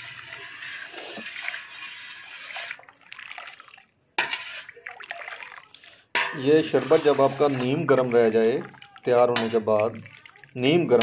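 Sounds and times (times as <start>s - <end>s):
syrup being stirred: 0.0s - 11.0s.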